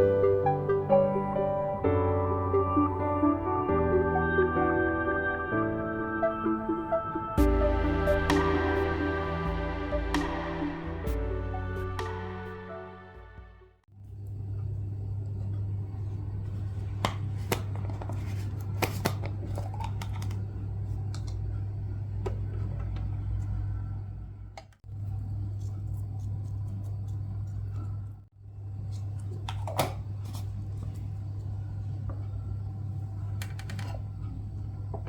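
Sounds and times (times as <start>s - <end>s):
low motor hum: 0.0s - 35.0s.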